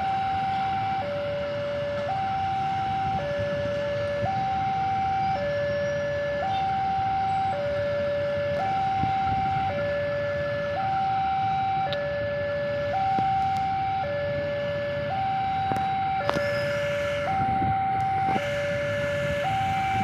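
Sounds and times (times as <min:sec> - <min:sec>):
two-tone warning siren: 0:00.0 - 0:20.0.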